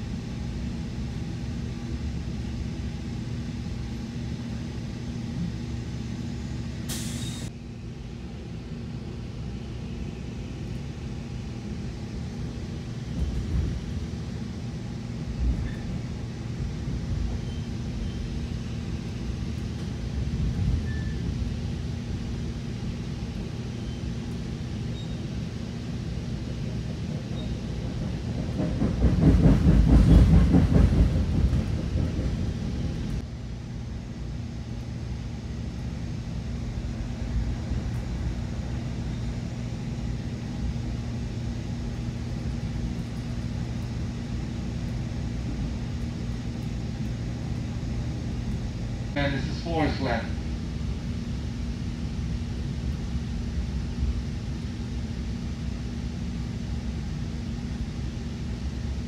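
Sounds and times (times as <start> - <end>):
train car rumbling and rattling: 0.0 - 59.0.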